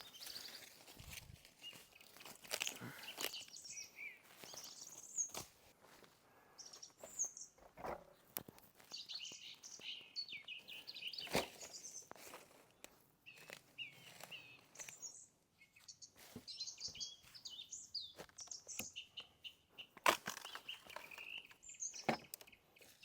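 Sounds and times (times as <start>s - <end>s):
birds chirping and warbling: 0.0s - 5.6s, 6.4s - 23.0s.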